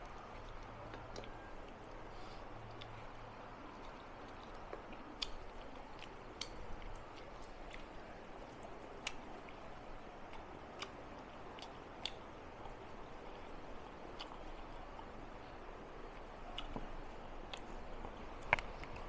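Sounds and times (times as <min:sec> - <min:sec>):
person chewing food: 0:00.0 - 0:19.0
steady background hiss: 0:00.0 - 0:19.0.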